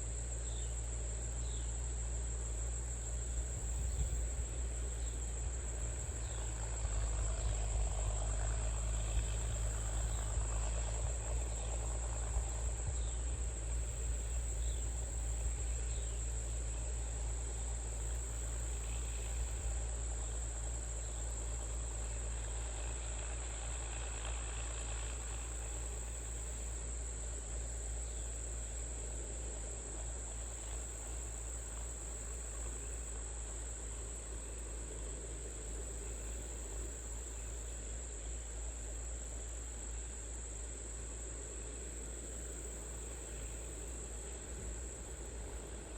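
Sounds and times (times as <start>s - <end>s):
crickets trilling: 0.0s - 45.9s
low steady rumble: 0.0s - 45.9s.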